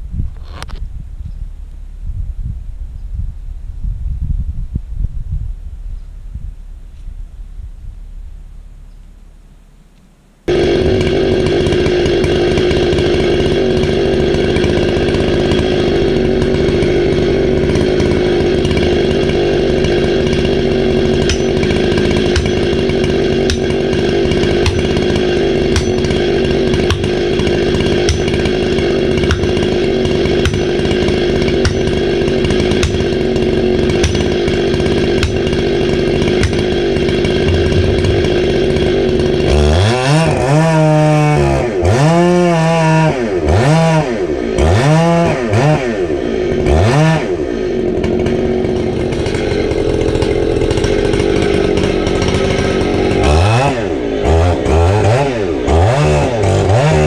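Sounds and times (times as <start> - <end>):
chainsaw cutting wood: 10.4 - 57.0.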